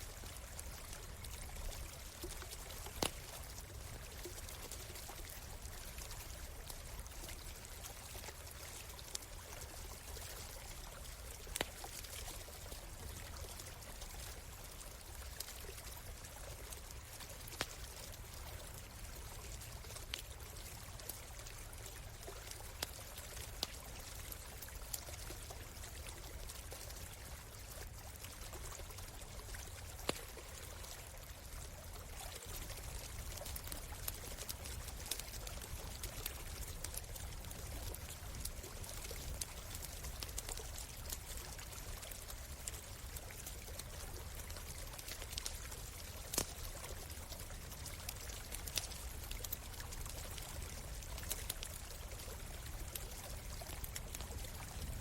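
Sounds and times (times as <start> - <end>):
shallow stream trickling: 0.0 - 55.0
campfire crackling and popping: 0.3 - 55.0.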